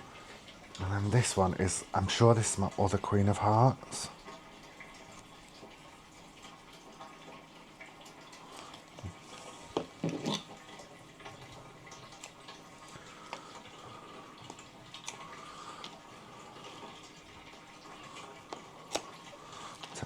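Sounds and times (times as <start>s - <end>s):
water trickling into pot: 0.0s - 20.0s.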